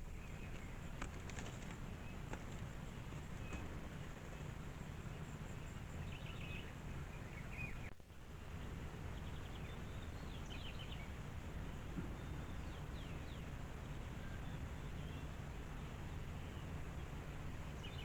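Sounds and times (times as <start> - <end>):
small birds chirping: 0.0 - 18.0
steady low background noise: 0.0 - 18.0.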